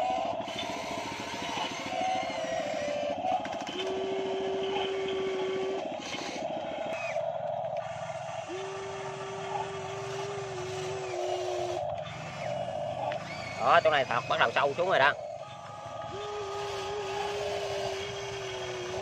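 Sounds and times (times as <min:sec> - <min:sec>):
excavator pump whine: 0:00.0 - 0:19.0
fast pulsing hum: 0:00.0 - 0:19.0.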